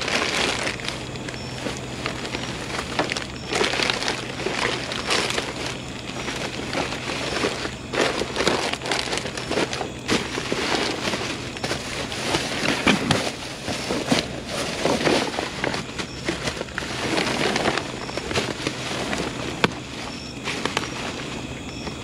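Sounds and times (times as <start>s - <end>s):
plastic trash bags rustling: 0.0s - 22.0s
steady low hum: 0.0s - 22.0s.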